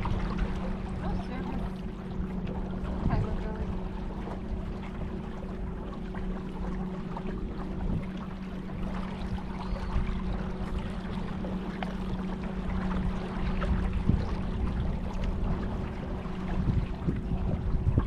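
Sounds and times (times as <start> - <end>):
boat motor running: 0.0 - 18.0
water rushing around boat: 0.0 - 18.0.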